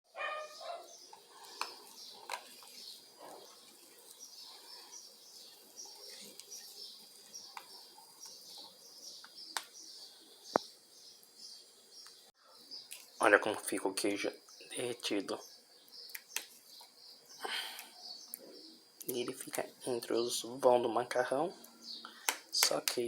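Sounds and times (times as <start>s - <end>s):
faint bird chirping: 0.1s - 22.8s.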